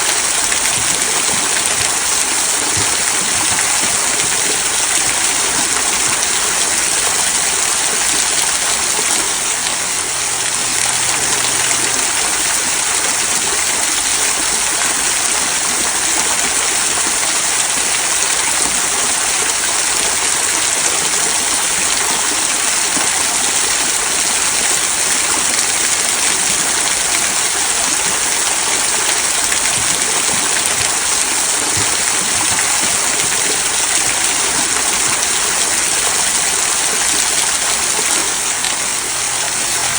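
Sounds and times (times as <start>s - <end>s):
waterfall splashing over stones: 0.0s - 39.9s.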